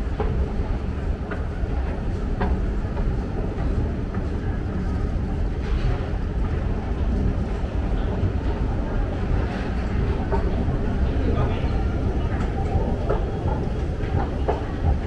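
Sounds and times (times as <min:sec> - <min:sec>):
city rumble: 0:00.0 - 0:15.0
faint voices: 0:00.4 - 0:15.0.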